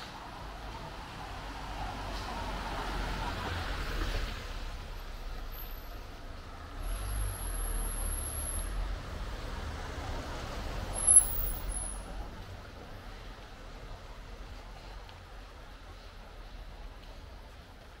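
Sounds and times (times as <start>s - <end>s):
street noise: 0.0s - 18.0s
vehicle engine rumble: 0.0s - 18.0s.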